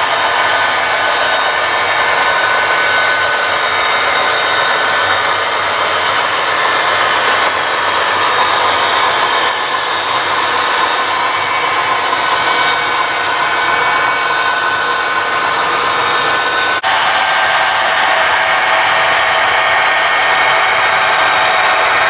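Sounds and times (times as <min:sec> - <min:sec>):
model train running with whine: 0:00.0 - 0:22.0.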